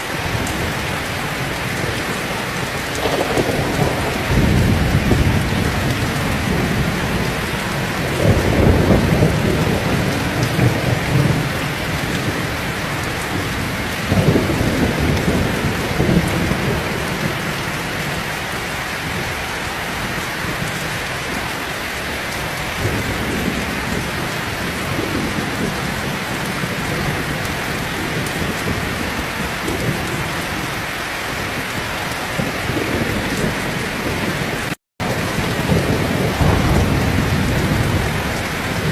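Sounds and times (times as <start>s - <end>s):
heavy rain falling: 0.0s - 38.9s
thunder rolling: 0.2s - 18.3s, 22.0s - 30.8s, 31.4s - 38.9s.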